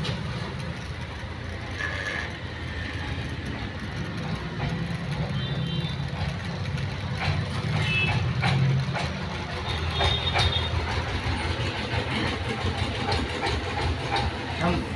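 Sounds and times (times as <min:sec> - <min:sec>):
sharp clicks: 0:00.0 - 0:14.4.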